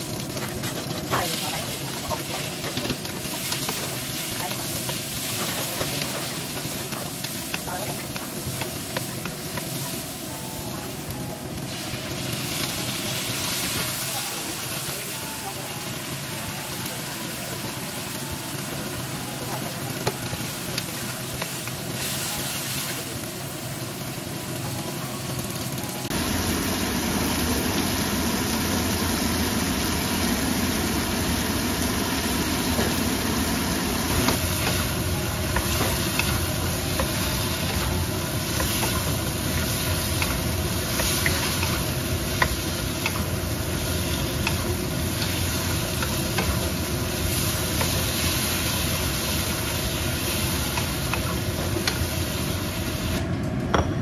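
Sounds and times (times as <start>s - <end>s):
food sizzling in a wok: 0.0s - 53.2s.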